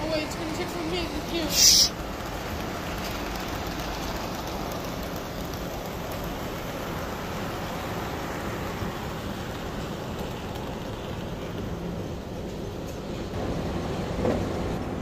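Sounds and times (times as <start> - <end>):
model train wheels rumbling on rail: 0.0 - 15.0.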